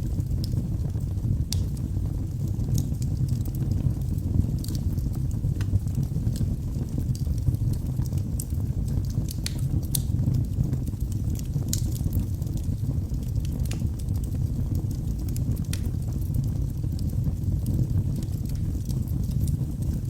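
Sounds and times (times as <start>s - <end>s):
logs crackling and popping: 0.0s - 20.0s
low rush of flames: 0.0s - 20.0s.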